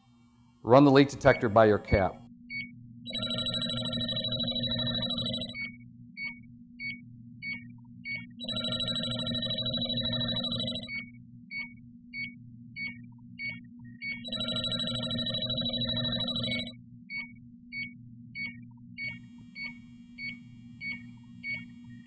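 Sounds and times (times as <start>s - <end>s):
continuous rapid alarm tone: 0.8s - 21.9s
leak detector beeps: 1.1s - 22.0s.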